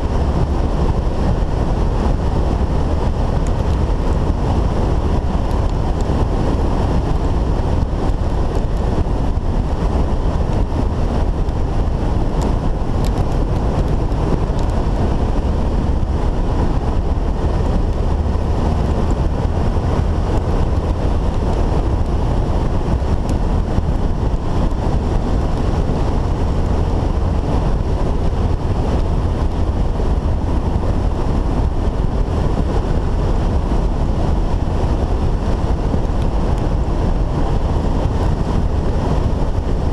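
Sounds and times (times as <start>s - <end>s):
motorcycle engine running: 0.0s - 39.9s
tyres on dirt road: 0.0s - 39.9s
wind buffeting microphone: 0.0s - 39.9s.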